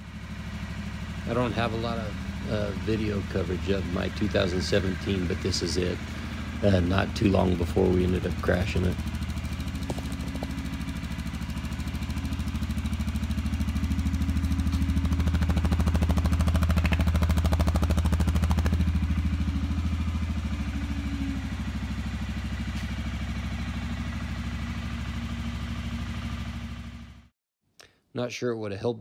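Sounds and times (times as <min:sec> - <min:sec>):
atv engine idling: 0:00.0 - 0:27.3.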